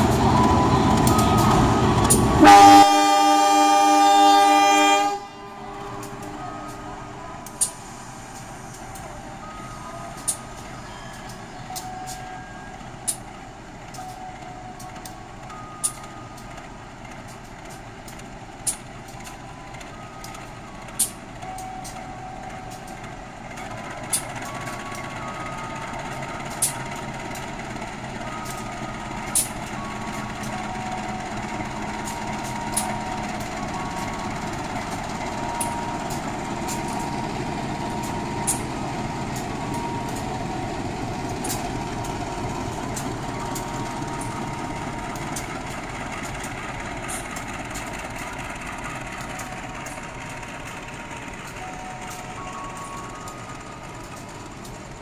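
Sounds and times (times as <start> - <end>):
locomotive engines running: 0.0 - 55.0.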